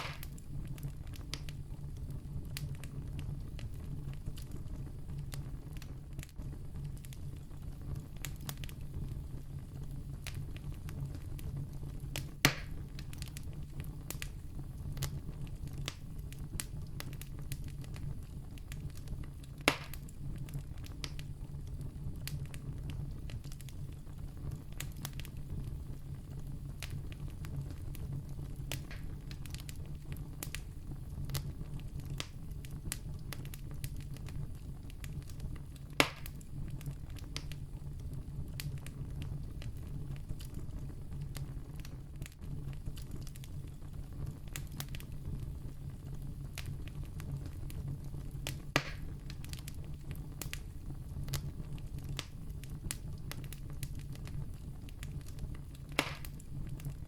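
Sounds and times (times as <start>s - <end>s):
campfire flames rushing: 0.0s - 57.0s
fire crackling: 0.0s - 57.0s
sharp fire pops: 0.0s - 57.0s.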